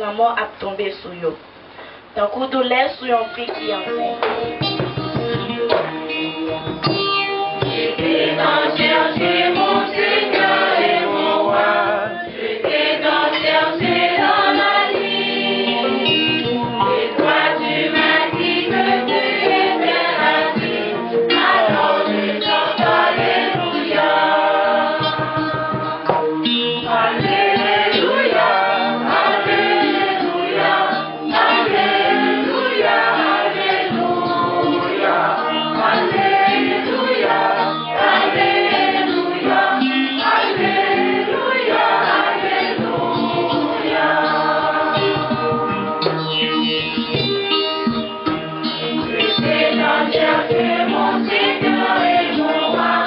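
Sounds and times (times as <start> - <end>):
church choir singing: 7.6 - 46.2, 48.8 - 53.0.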